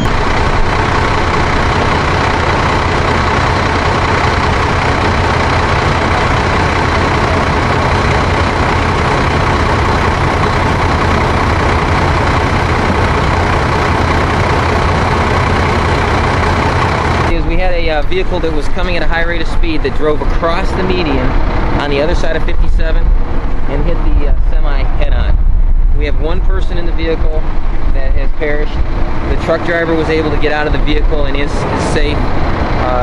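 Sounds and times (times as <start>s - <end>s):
large vehicle engine idling: 0.0s - 33.0s.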